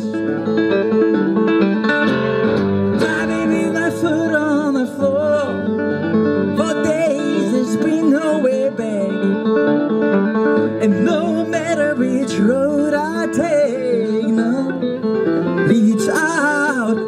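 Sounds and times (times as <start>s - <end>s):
man singing: 0.0s - 0.6s, 2.9s - 9.8s, 10.6s - 17.0s
resonator guitar: 0.0s - 17.0s.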